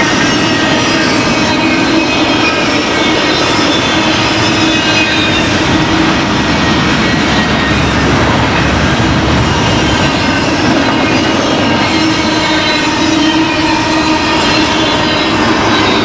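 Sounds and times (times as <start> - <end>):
wheels rumbling on rail: 0.0 - 16.0
wheels squealing: 0.0 - 16.0.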